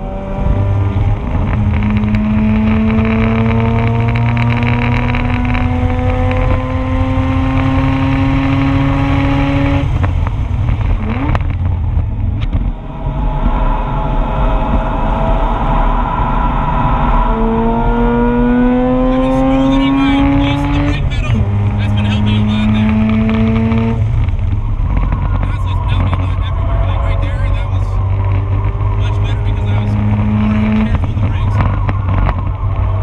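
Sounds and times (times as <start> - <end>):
rotary car engine at speed: 0.0 - 33.0.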